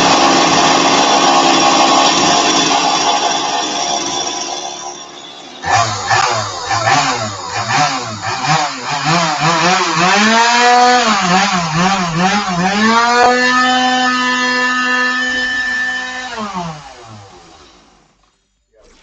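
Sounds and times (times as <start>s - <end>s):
chainsaw engine revving: 0.0s - 4.9s, 5.6s - 18.2s.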